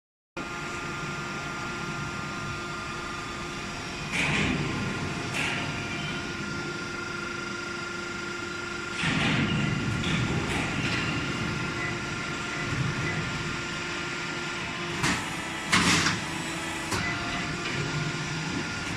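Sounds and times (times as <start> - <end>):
machine hum with held tones: 0.4 - 18.9.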